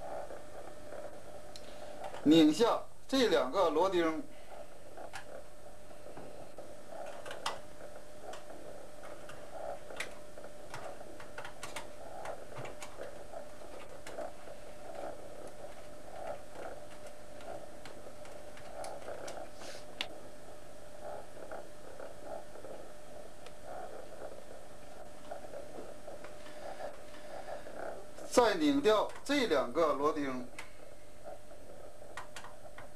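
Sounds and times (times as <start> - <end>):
steady hum: 0.0 - 32.9.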